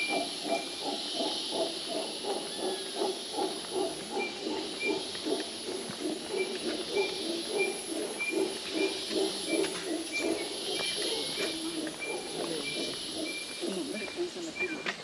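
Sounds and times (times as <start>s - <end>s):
howler monkeys howling: 0.0s - 15.0s.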